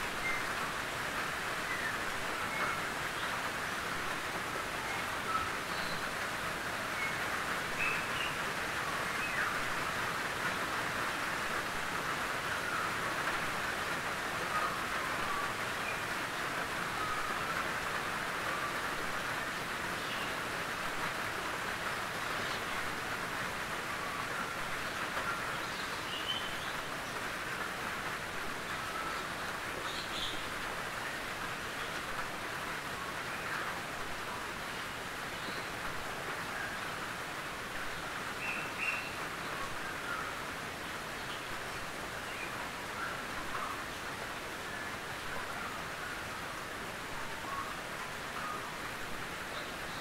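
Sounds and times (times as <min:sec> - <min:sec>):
rain on a tin roof: 0:00.0 - 0:50.0.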